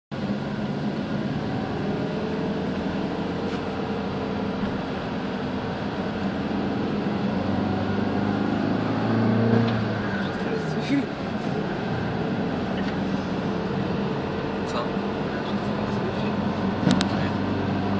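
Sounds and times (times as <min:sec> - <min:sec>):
car engine hum and road noise: 0:00.1 - 0:17.9.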